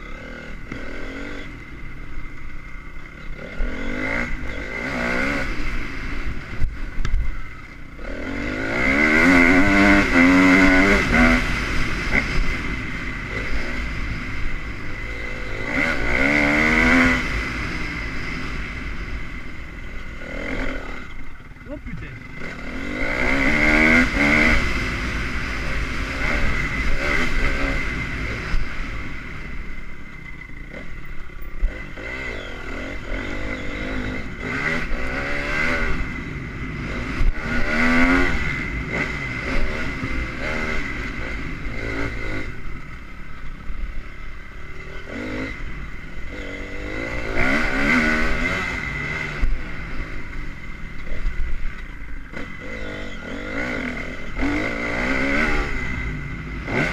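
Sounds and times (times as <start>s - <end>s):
motorbike engine revving: 0.0s - 56.9s.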